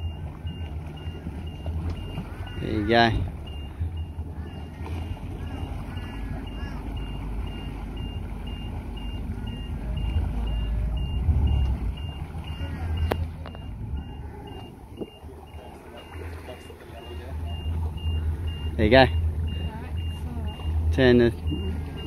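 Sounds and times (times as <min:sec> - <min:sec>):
boat engine idling: 0:00.0 - 0:22.0
high electronic beeping: 0:00.0 - 0:22.0.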